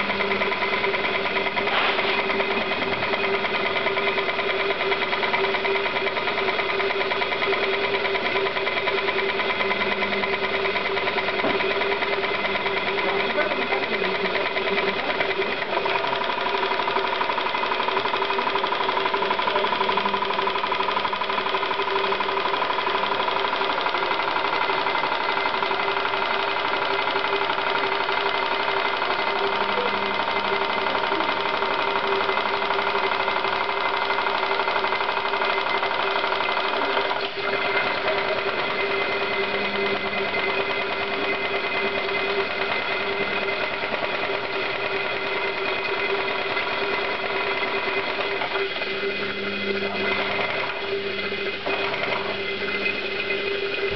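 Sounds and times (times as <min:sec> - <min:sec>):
steam engine mechanical clatter: 0:00.0 - 0:53.9.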